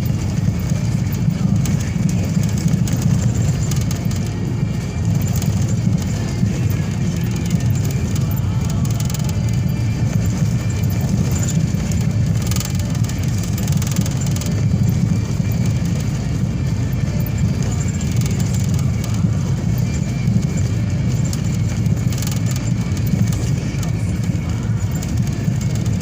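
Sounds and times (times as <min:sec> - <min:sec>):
vehicle driving along a road: 0:00.0 - 0:26.0.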